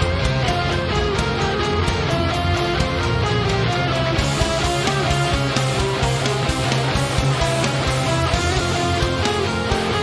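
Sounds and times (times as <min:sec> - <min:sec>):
bass and drums: 0:00.0 - 0:10.0
electric guitar melody: 0:00.0 - 0:10.0.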